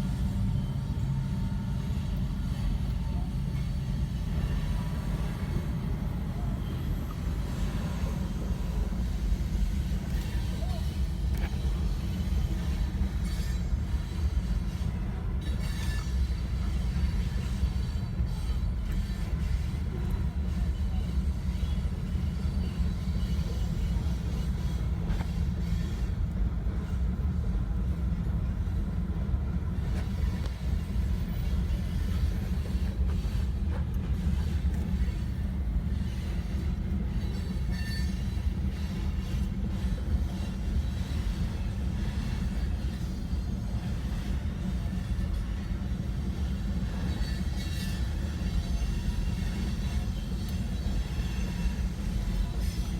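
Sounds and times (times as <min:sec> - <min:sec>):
train wheels rumbling on rail: 0:00.0 - 0:52.9
faint wheel squeals: 0:00.2 - 0:27.2, 0:29.8 - 0:45.6, 0:46.2 - 0:52.9.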